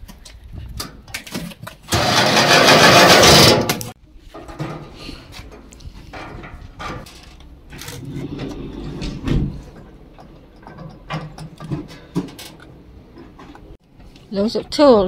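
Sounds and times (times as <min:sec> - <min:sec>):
metal grill parts clattering: 0:01.2 - 0:13.8.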